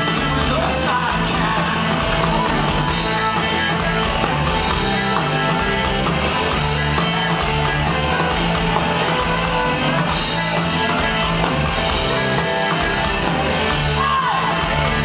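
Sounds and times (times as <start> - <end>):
bass guitar: 0.0 - 15.0.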